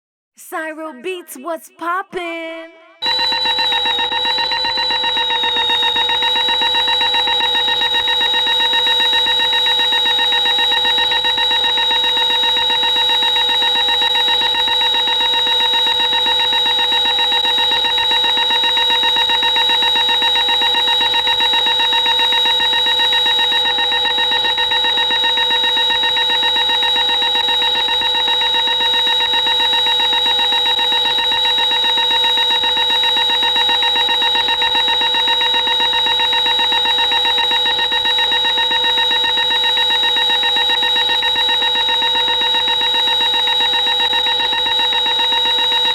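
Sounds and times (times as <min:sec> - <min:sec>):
electronic alarm tone: 0:03.0 - 0:45.9.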